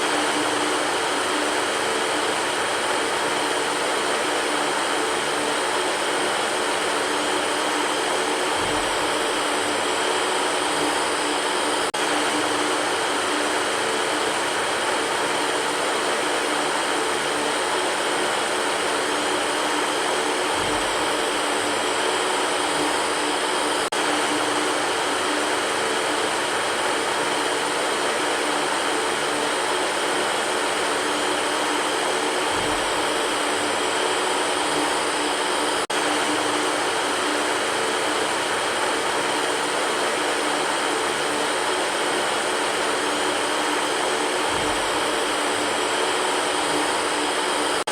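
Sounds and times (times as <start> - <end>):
electric fan whooshing: 0.0 - 47.9
faint motor hum: 0.0 - 47.9.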